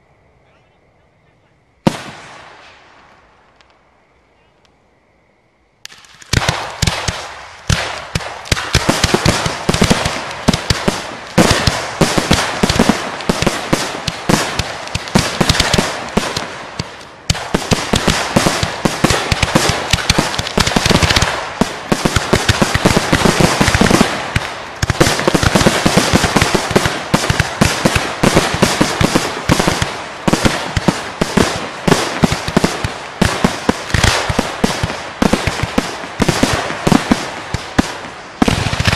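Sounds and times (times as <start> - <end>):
fireworks bangs and crackle: 1.8 - 3.8, 5.8 - 38.9.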